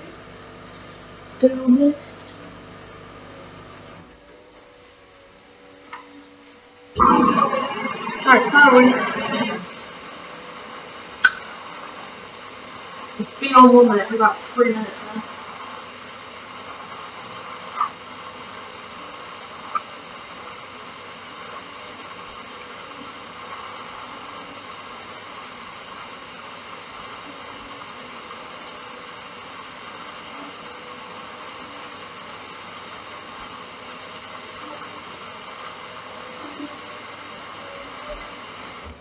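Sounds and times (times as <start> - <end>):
washing machine low hiss: 0.0 - 39.0.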